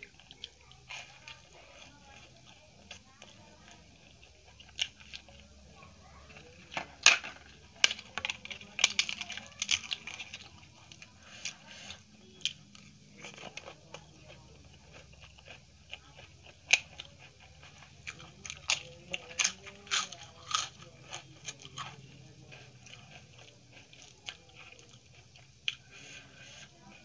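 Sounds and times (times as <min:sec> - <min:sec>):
mouth chewing food: 0:00.0 - 0:27.0.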